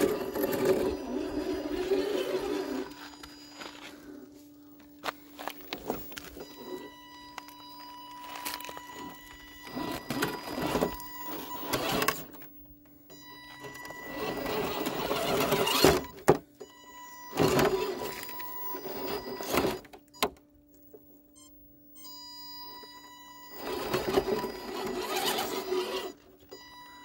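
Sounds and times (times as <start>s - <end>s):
electric motor and gears whirring: 0.0s - 21.1s, 22.1s - 27.0s
faint high whine: 0.0s - 27.0s.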